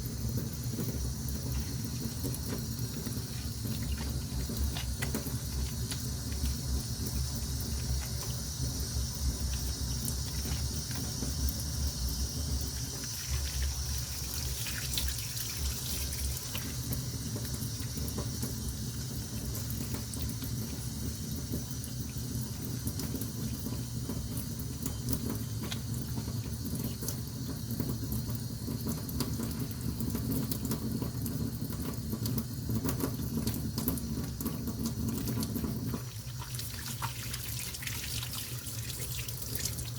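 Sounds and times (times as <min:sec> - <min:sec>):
water running or sloshing: 0:00.0 - 0:39.9.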